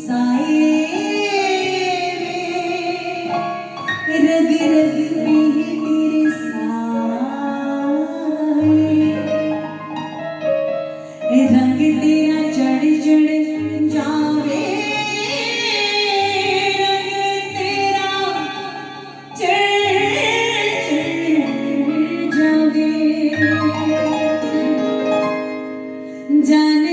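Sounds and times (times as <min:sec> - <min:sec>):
woman singing: 0:00.0 - 0:09.9, 0:11.2 - 0:24.9, 0:26.2 - 0:26.9
instrumental accompaniment: 0:00.6 - 0:26.9.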